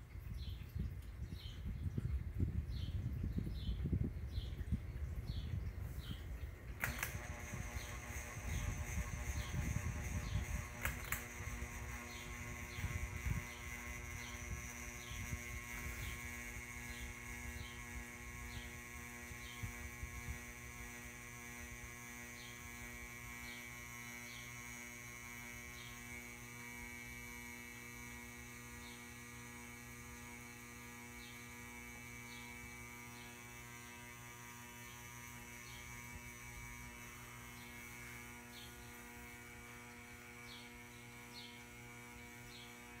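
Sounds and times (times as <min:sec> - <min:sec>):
ceiling fan electrical buzz: 0:00.0 - 0:43.0.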